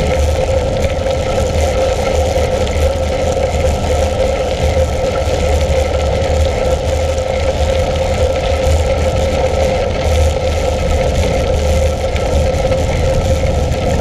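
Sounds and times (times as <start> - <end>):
bicycle tyres on gravel: 0.0 - 14.0
steady hum: 0.0 - 14.0
wind on microphone: 0.0 - 14.0.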